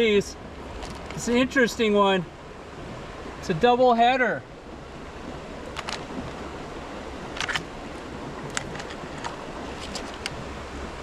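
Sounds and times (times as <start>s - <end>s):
creek flowing: 0.0s - 11.0s.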